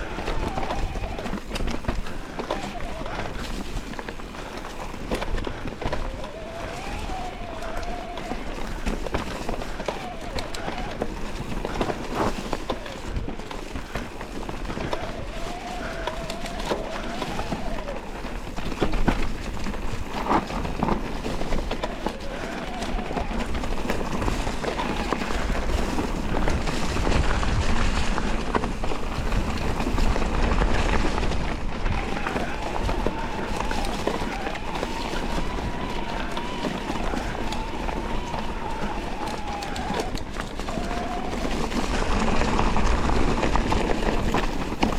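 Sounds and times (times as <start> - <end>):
bike rattling over dirt trail: 0.0 - 44.9
wind rumble on microphone: 0.0 - 44.9.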